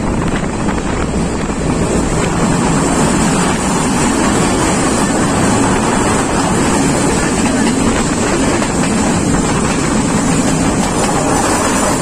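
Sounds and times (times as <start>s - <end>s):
moving train rumble: 0.0s - 12.0s
wind on microphone: 0.0s - 12.0s.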